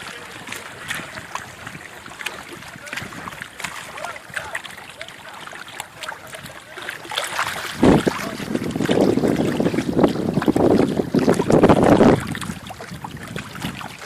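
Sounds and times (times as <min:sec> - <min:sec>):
water lapping and splashing: 0:00.0 - 0:14.0.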